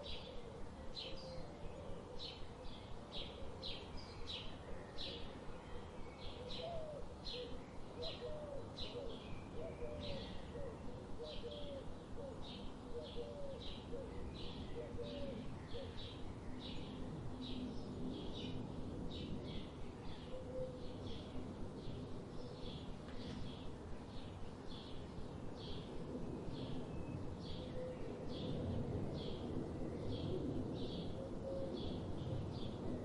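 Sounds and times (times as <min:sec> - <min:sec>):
faint background hiss: 0:00.0 - 0:33.0.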